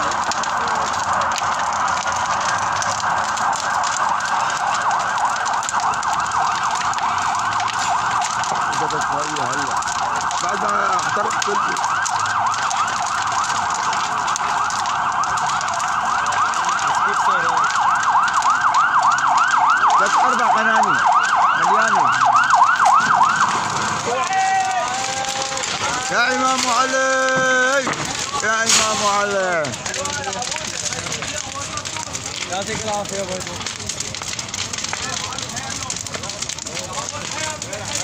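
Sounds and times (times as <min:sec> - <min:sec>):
emergency vehicle siren wailing: 0:00.0 - 0:38.0.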